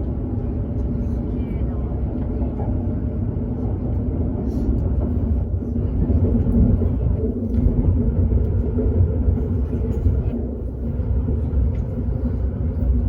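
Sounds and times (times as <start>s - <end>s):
train rumble inside cabin: 0.0s - 13.0s.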